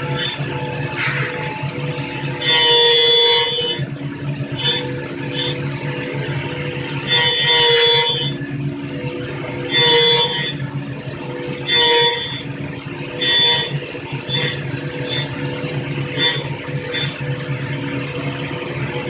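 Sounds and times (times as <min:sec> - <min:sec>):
cutter squealing on metal: 0:00.0 - 0:08.6, 0:09.2 - 0:17.3
milling machine spindle hum: 0:00.0 - 0:19.0.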